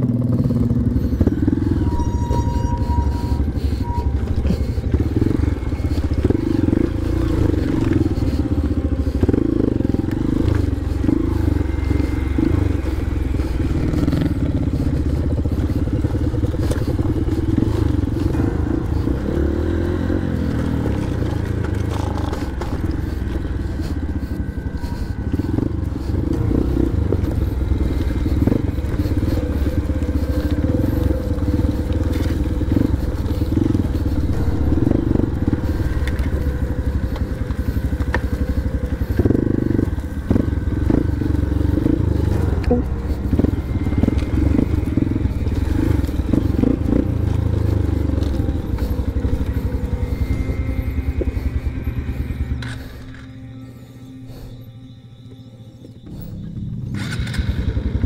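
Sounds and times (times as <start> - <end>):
knocks and rattles of bike: 0.0 - 53.4, 56.0 - 58.0
motorcycle engine running: 0.0 - 54.6, 55.2 - 58.0.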